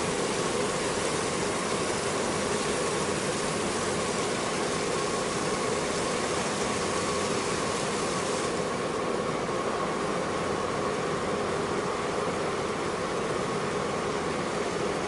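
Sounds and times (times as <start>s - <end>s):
hiss of wind and water: 0.0s - 15.0s.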